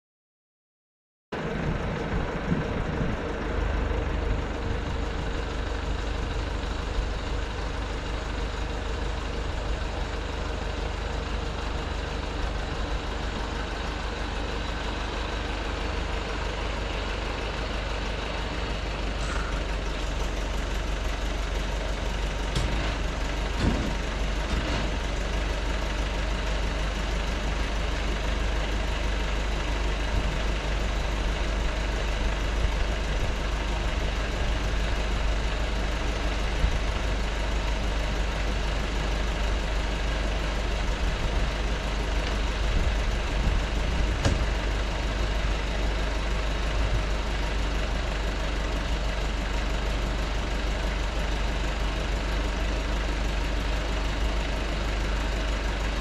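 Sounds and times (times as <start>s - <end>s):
diesel engine idling: 1.3s - 56.0s.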